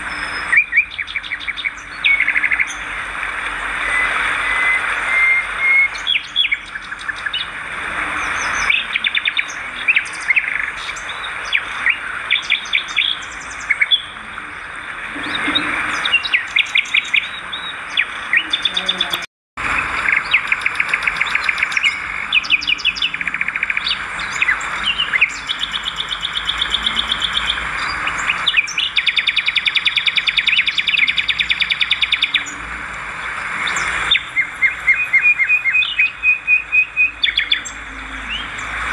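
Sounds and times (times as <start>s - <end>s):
swiftlets twittering: 0.0s - 38.9s.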